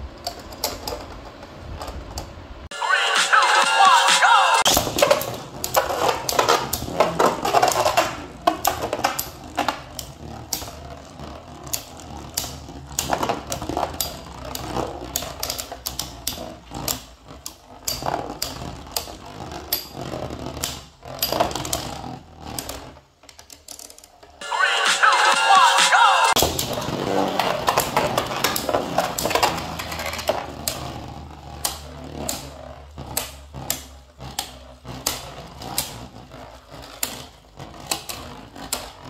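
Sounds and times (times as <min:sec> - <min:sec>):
spinning tops whirring: 0:00.0 - 0:39.0.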